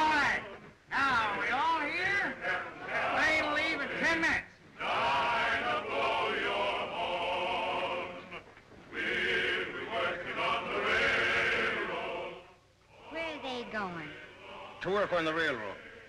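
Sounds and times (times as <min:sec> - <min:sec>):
men singing together: 0:00.3 - 0:13.1, 0:14.0 - 0:16.0.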